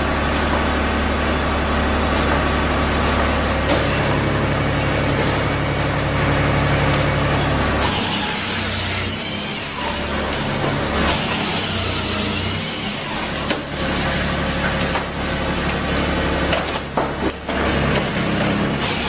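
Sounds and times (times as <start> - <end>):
firewood processor running: 0.0 - 19.0.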